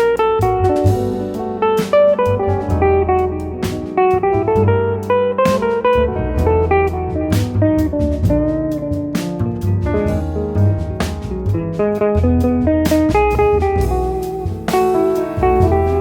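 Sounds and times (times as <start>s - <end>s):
drums: 0.0s - 16.0s
jazz guitar single notes: 0.0s - 16.0s
walking double bass: 0.0s - 16.0s.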